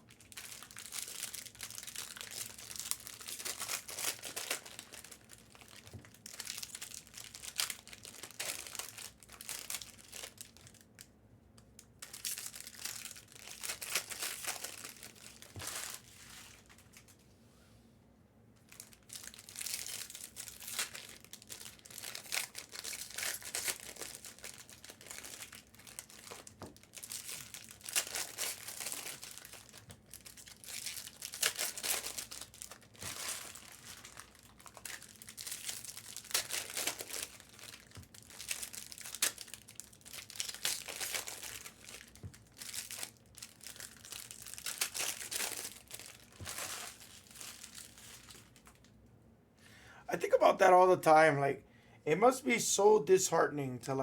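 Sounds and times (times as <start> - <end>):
foil wrappers crinkling and tearing: 0.0 - 11.1, 11.8 - 17.2, 18.7 - 48.9.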